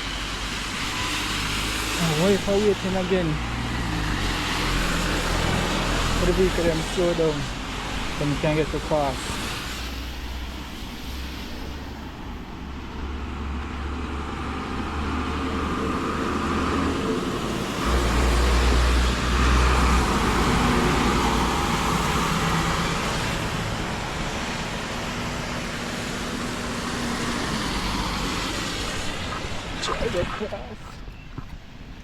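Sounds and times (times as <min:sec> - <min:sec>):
road traffic: 0:00.0 - 0:32.0.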